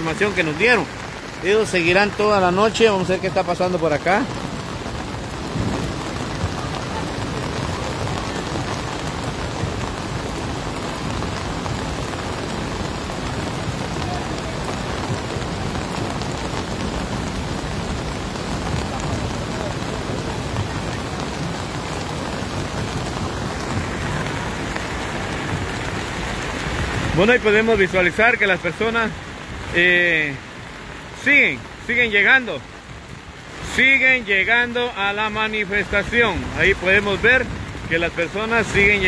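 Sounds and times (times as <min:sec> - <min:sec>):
heavy rain on wet road: 0:00.0 - 0:39.0.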